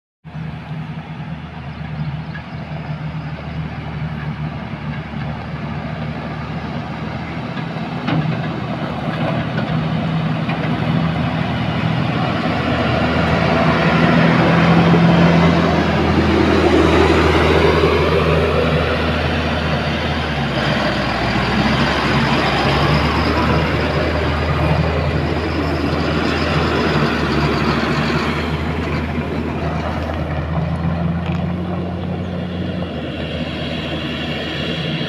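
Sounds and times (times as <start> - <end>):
wheel loader diesel engine: 0.2 - 35.0
dump truck driving on gravel: 0.3 - 35.0.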